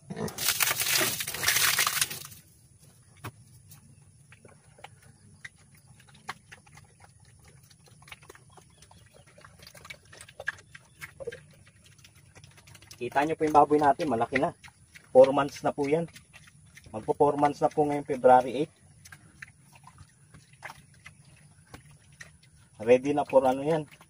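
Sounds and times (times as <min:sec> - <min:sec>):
pig eating from trough: 0:00.0 - 0:03.0, 0:03.7 - 0:24.0.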